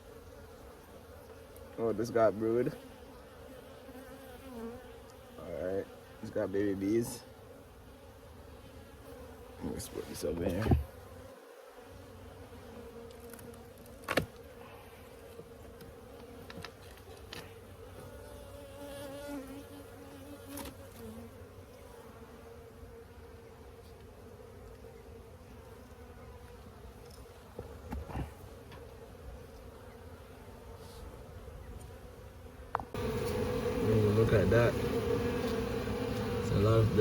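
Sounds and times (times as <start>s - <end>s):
honeybees buzzing: 0.0s - 37.0s.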